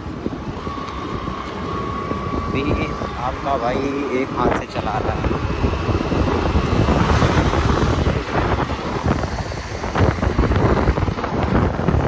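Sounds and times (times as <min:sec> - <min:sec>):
motorbike engine: 0:00.0 - 0:12.0
road noise: 0:00.0 - 0:12.0
wind buffeting microphone: 0:00.0 - 0:12.0.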